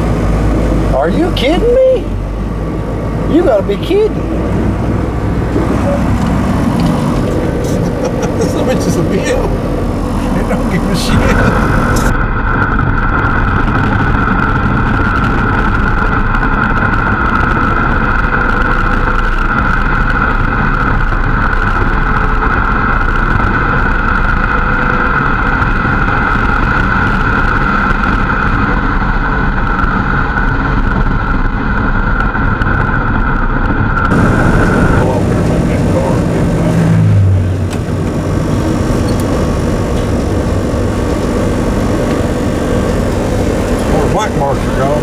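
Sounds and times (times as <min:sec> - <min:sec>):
steady high whine: 0:00.0 - 0:30.4, 0:31.1 - 0:45.0
road rumble: 0:00.0 - 0:45.0
truck engine running: 0:00.0 - 0:45.0.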